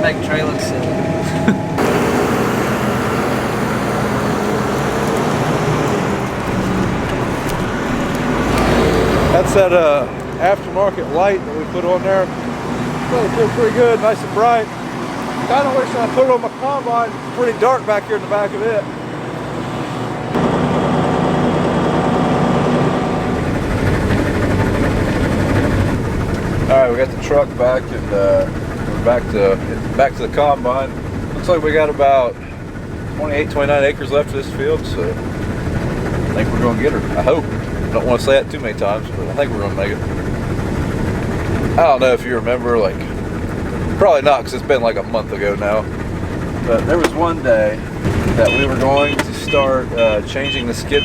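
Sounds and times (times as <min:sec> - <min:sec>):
road and cab noise: 0:00.0 - 0:51.0
truck engine hum: 0:00.0 - 0:51.0.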